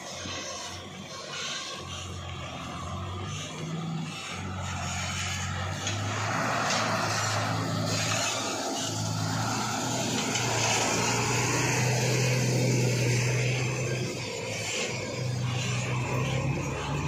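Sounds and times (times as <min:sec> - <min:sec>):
diesel truck engines: 0:00.0 - 0:17.0.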